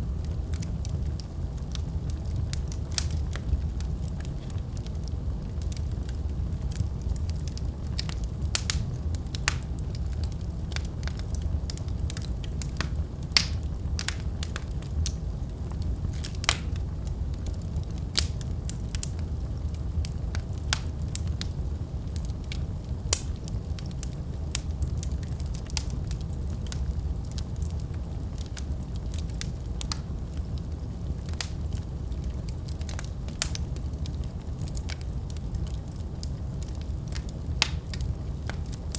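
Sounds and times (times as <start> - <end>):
burning logs crackling and popping: 0.0 - 38.9
fire rumbling: 0.0 - 38.9.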